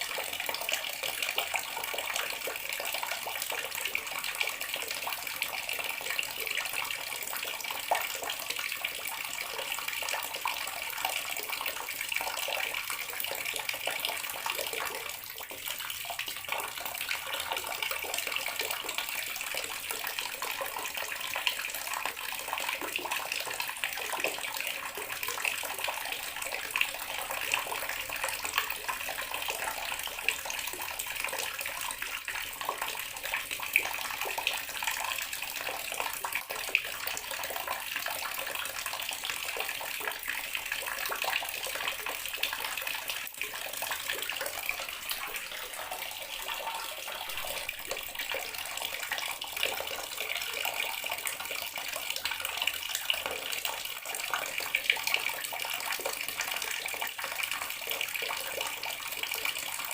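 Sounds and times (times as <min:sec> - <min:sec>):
tap water running into sink: 0:00.0 - 0:58.0.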